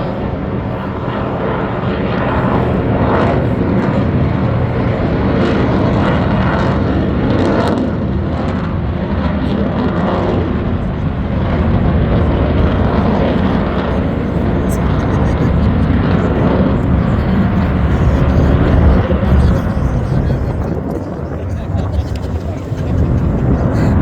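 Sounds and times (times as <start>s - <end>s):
aircraft engine flying past: 0.0s - 24.0s.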